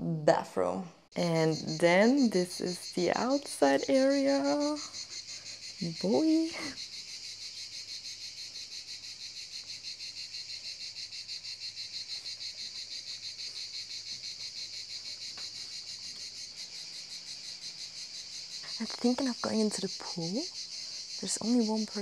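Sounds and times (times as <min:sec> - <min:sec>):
insects chirring: 0:01.1 - 0:22.0.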